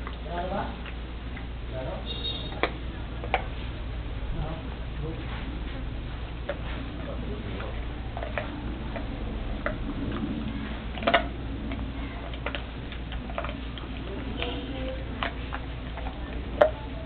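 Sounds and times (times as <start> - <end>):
dog chewing bone: 0.0 - 1.8, 2.5 - 3.8, 5.8 - 17.0.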